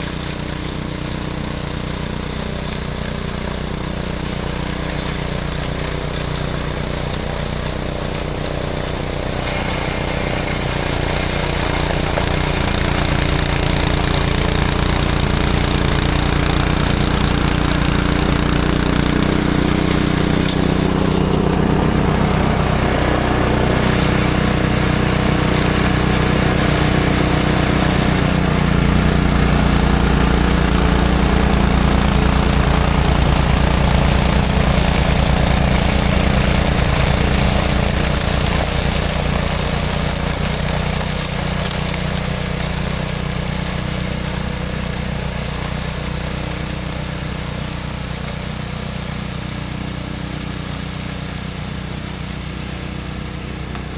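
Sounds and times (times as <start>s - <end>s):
snowblower engine running: 0.0s - 53.9s.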